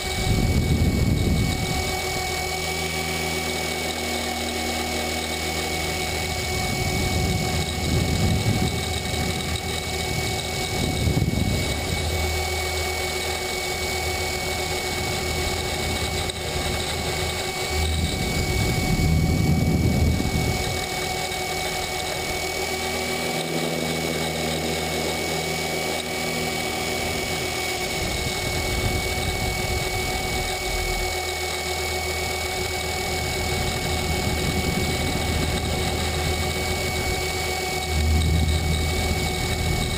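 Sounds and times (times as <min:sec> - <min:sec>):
electric motor and gears whining: 0:00.0 - 0:39.9
helicopter rotor noise: 0:00.0 - 0:39.9.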